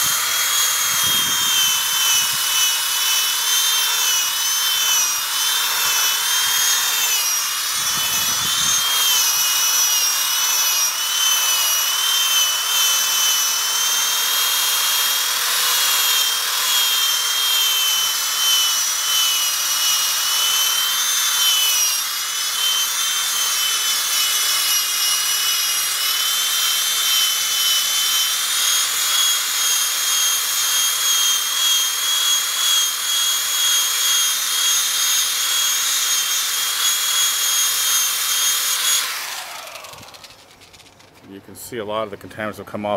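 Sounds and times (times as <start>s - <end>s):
drill motor whine: 0.0s - 41.3s.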